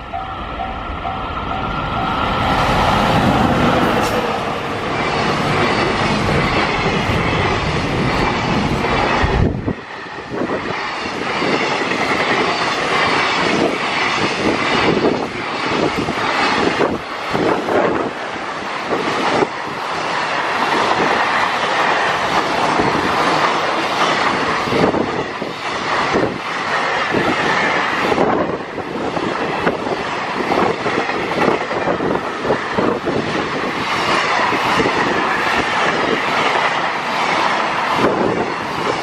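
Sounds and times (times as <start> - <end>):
electric locomotive passing: 0.0 - 39.0.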